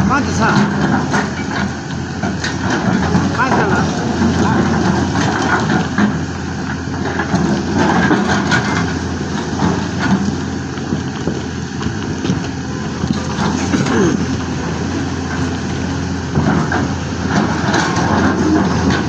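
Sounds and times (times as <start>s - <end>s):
rock and soil crunching: 0.0s - 15.7s
diesel engine running: 0.0s - 19.0s.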